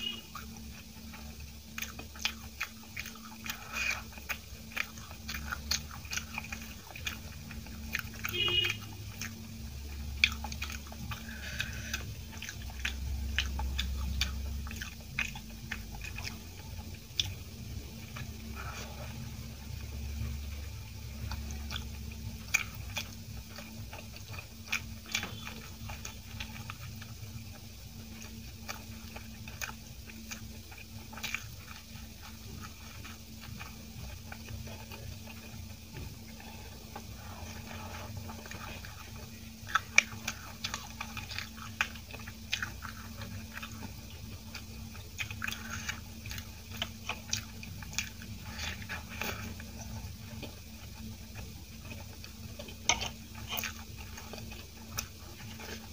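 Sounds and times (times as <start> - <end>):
wet chewing and lip smacks: 0.0 - 19.2, 21.0 - 55.9
faint steady hum: 0.0 - 55.9.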